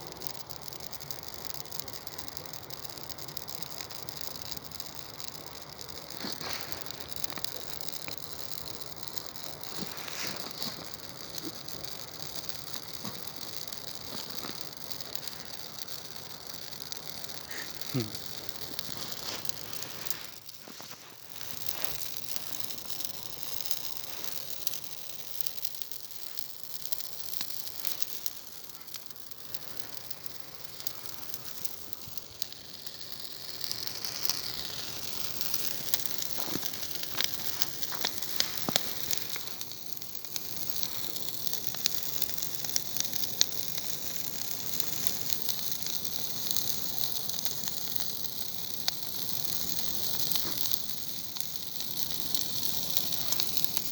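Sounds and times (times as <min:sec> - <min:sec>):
bonfire crackling and hissing: 0:00.0 - 0:53.9.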